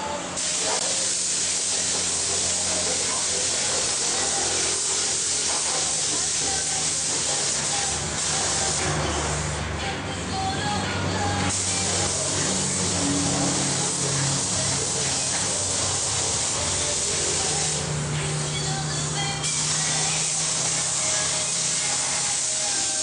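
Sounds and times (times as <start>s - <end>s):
paint spray gun hissing: 0.4s - 9.6s, 11.4s - 23.0s.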